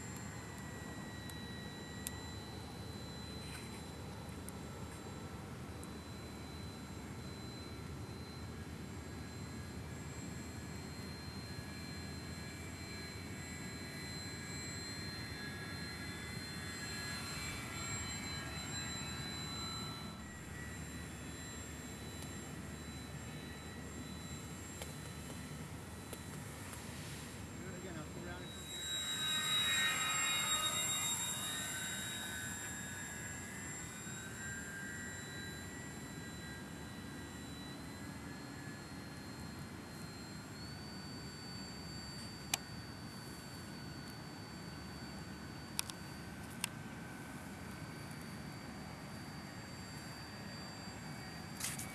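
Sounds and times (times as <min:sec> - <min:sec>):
model airplane motor whining: 0:00.0 - 0:51.9.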